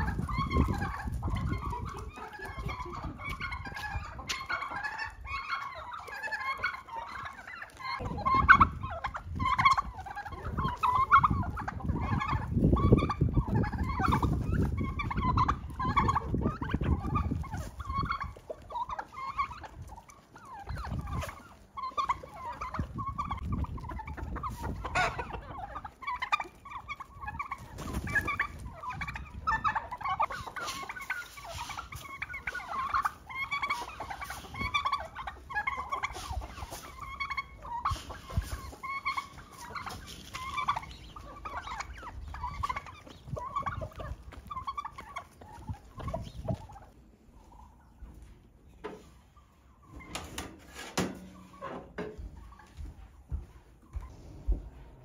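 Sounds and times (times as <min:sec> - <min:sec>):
turkeys and chickens calling: 0:00.0 - 0:55.0.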